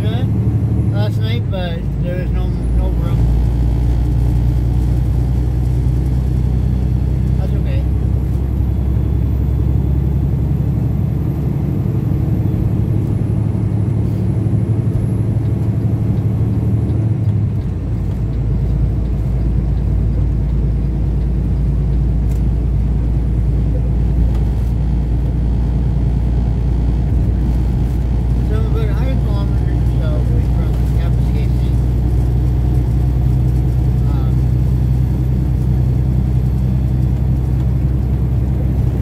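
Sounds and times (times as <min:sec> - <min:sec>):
road noise: 0:00.0 - 0:39.0
truck engine drone: 0:00.0 - 0:39.0.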